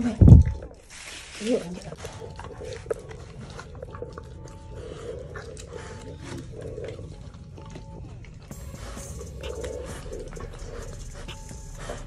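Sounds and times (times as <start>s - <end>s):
dog throaty sounds: 0.0s - 12.0s
dog chewing wet mouth noises: 0.4s - 12.0s.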